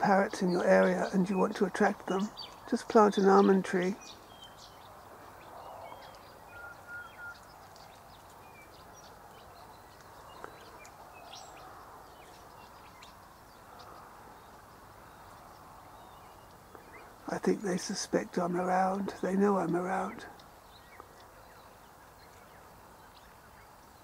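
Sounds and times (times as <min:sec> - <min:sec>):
bird chirps and calls: 0:00.0 - 0:24.0
faint outdoor background noise: 0:00.0 - 0:24.0.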